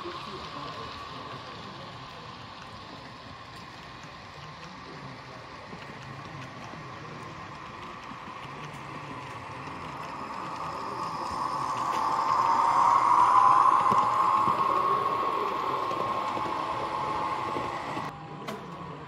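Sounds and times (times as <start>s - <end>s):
model train whirring: 0.0s - 19.0s
wheels clicking on rails: 0.0s - 19.0s.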